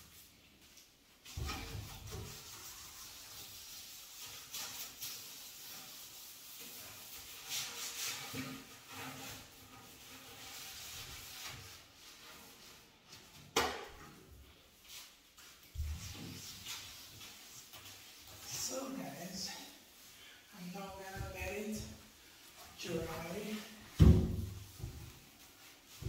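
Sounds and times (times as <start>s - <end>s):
scrubbing a glass door: 0.1s - 20.1s, 20.9s - 26.0s.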